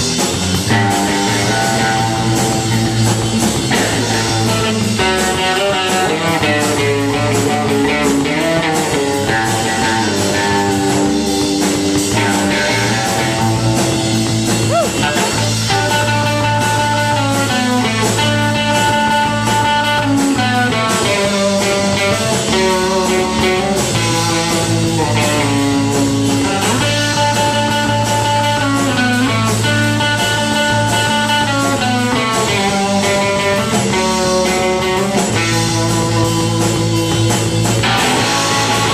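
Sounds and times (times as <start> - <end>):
electric guitar melody: 0.0 - 38.9
rock band playing: 0.0 - 38.9.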